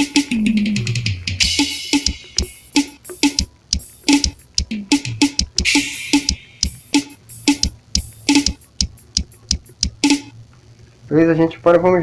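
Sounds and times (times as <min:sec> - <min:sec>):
drum groove through phone speaker: 0:00.0 - 0:10.5.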